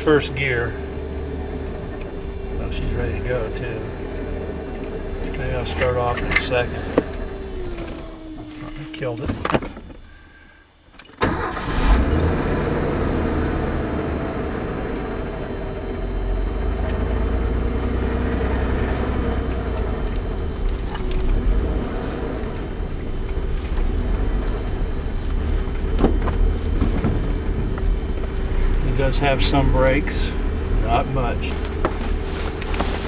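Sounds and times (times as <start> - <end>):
truck engine starting: 0.0 - 9.7, 10.9 - 33.0
truck engine running: 0.0 - 10.4, 11.2 - 33.0.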